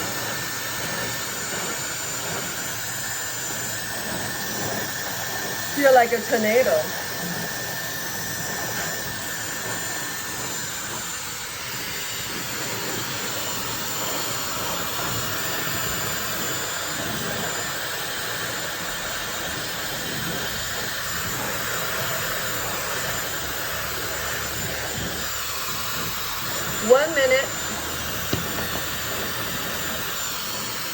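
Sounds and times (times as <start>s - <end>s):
hair dryer blowing air: 0.0s - 30.9s.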